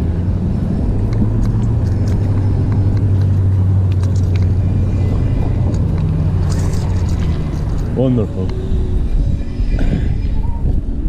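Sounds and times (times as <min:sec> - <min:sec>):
low hum: 0:00.0 - 0:11.0
wind and road noise: 0:00.0 - 0:11.0.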